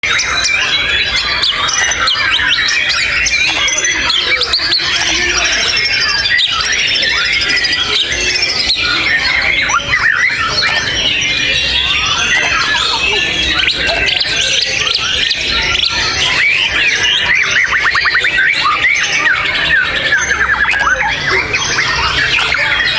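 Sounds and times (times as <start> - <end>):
bird singing whistles and trills: 0.0 - 22.9.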